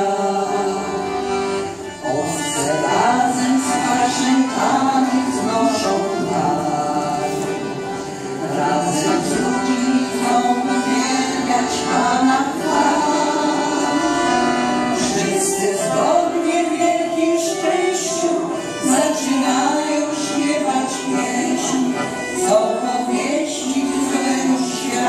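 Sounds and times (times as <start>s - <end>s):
women singing: 0.0s - 1.5s, 2.1s - 25.0s
piano accordion playing: 0.0s - 25.0s.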